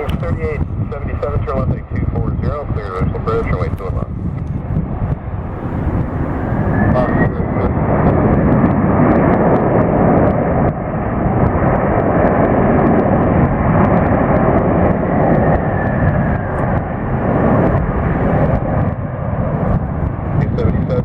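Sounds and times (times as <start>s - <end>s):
jet engine noise: 0.0s - 21.0s.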